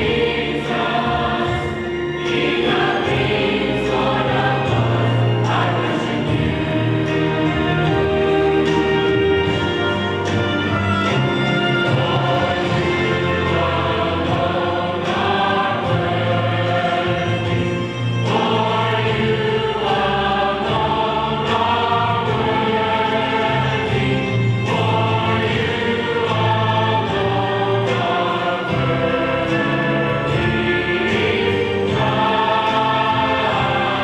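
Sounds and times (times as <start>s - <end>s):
choir singing: 0.0s - 34.0s
instrumental accompaniment: 0.0s - 34.0s.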